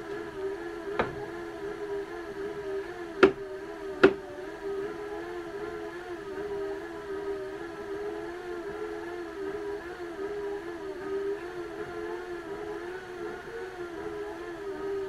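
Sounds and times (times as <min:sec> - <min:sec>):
hand-crank generator whining: 0:00.0 - 0:15.0.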